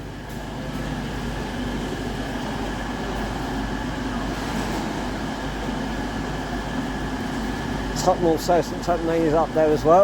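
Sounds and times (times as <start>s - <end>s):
freight train passing: 0.0s - 10.0s.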